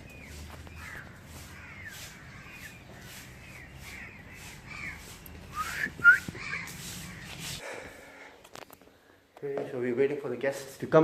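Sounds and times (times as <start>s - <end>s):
birds calling: 0.0s - 9.1s.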